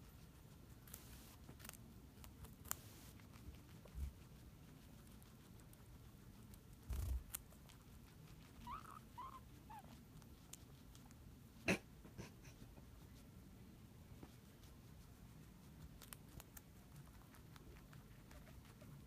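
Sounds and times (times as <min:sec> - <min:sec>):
guinea pigs chewing carrot: 0:00.0 - 0:13.6, 0:14.2 - 0:19.0.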